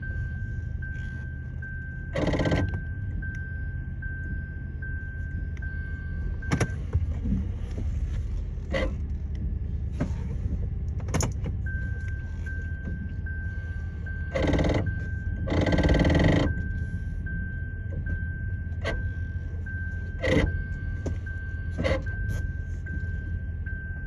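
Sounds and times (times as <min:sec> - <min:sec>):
brake buzzing groan: 0:00.0 - 0:24.0.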